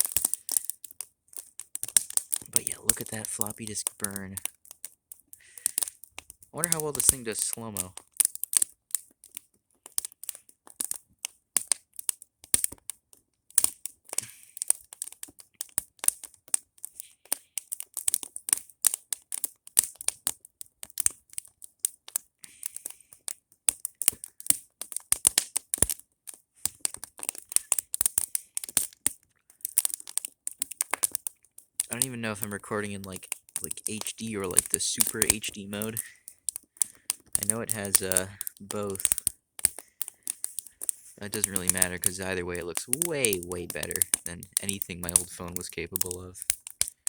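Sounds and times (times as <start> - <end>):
fire crackling and popping: 0.0 - 47.0.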